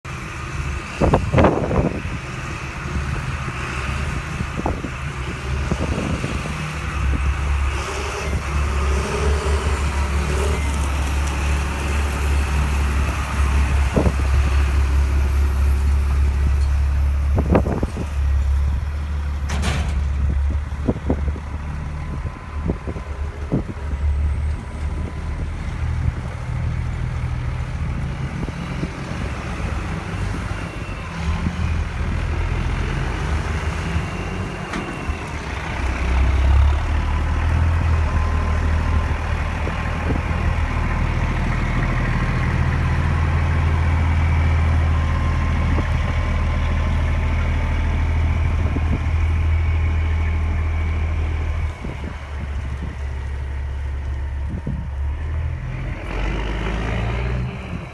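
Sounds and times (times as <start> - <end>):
farm machinery engine drone: 0.0 - 57.9.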